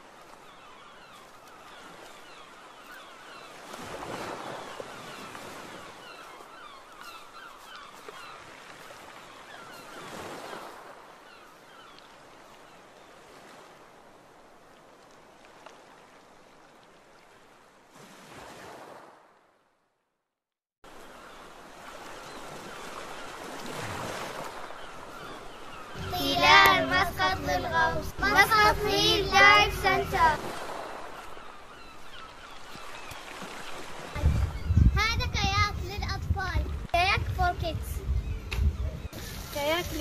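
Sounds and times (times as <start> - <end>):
sea waves washing in: 0.0 - 19.7, 20.9 - 34.8.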